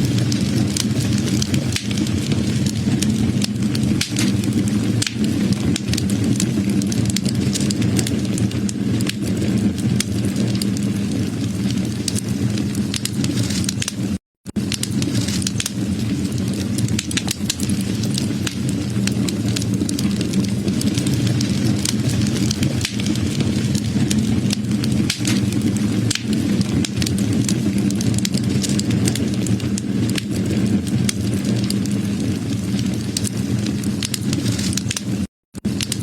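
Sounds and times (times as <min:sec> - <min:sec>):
fire flames rushing: 0:00.0 - 0:36.0
wood crackling and popping: 0:00.0 - 0:36.0.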